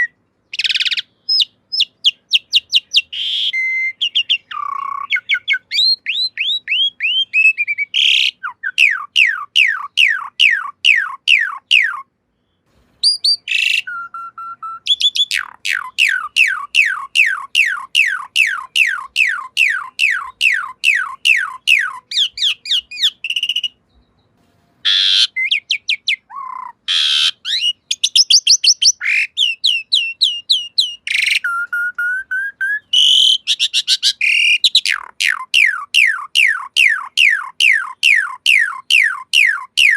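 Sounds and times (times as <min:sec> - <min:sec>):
starling singing whistled notes: 0:00.0 - 0:39.9.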